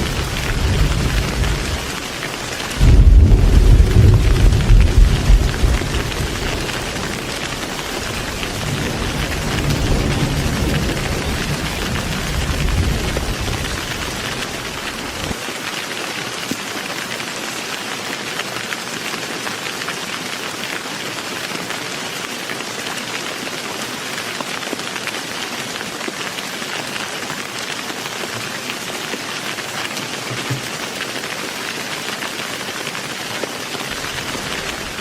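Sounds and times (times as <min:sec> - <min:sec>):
heavy rain pattering: 0:00.0 - 0:35.0.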